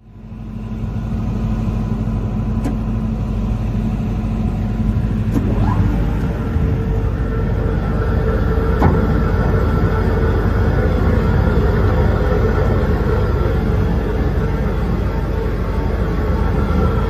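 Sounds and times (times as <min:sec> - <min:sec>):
wood shredder rumbling: 0:02.2 - 0:17.0.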